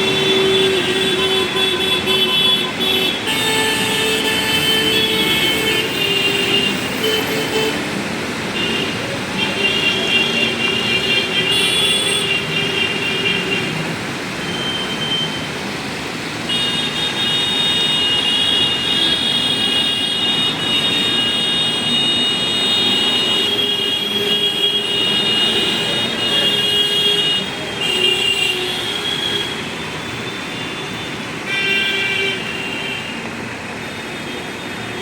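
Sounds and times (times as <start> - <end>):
vehicle horns: 0.0 - 15.4, 16.4 - 35.0
traffic engine and tyre noise: 0.0 - 35.0.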